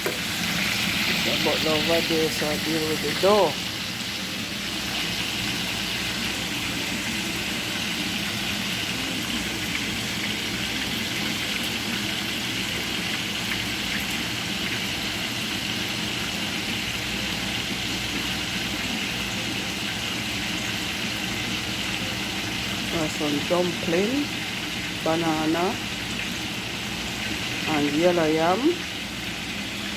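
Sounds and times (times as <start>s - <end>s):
chicken sizzling in oil: 0.0s - 29.9s.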